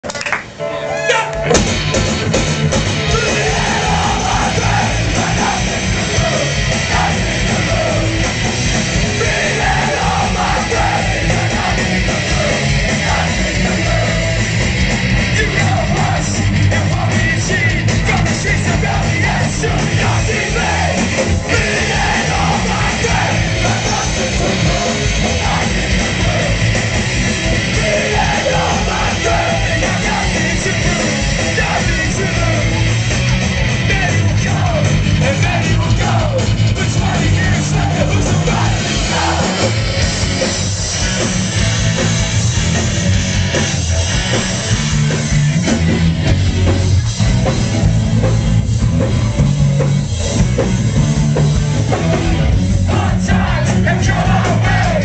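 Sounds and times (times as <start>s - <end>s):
punk band playing live: 0.0s - 55.0s.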